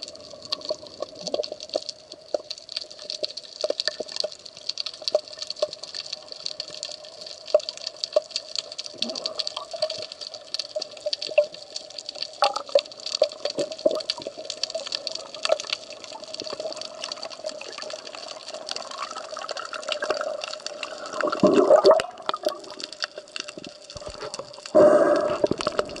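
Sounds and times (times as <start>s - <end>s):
underwater hiss with crackling clicks: 0.0s - 26.0s.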